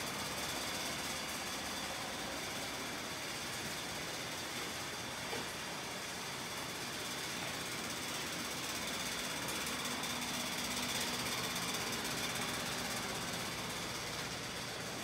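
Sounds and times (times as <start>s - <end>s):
steady machinery noise: 0.0s - 15.0s.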